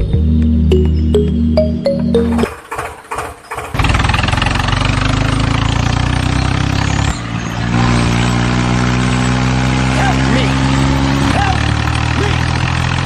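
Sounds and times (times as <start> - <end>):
small tractor motor running: 2.2 - 13.0.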